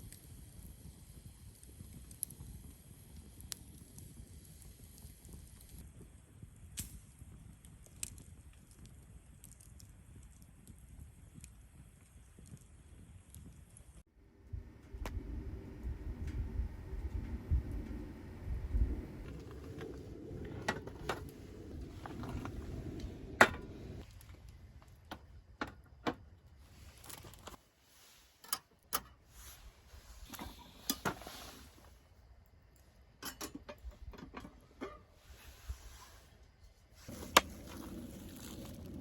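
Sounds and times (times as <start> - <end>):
faint outdoor background: 0.0 - 39.0.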